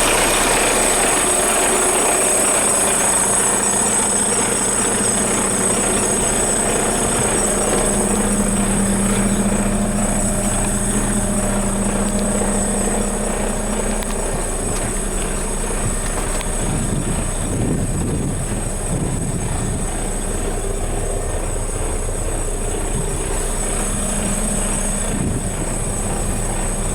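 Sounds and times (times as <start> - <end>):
diesel truck engine running: 0.0 - 26.9
steady high whine: 0.0 - 26.9.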